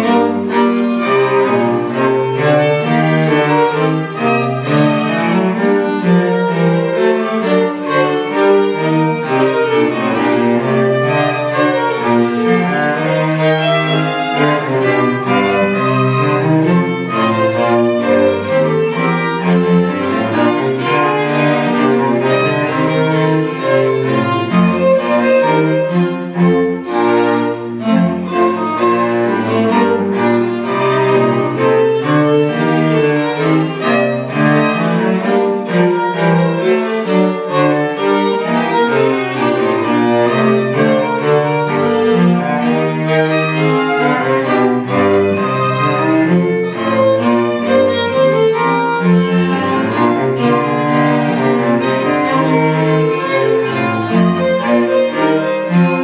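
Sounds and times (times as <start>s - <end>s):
string quartet playing quick notes: 0.0s - 56.0s.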